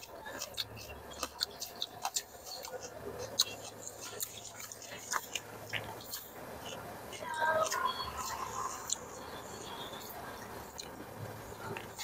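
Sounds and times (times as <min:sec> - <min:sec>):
food being chewed: 0:00.0 - 0:12.0.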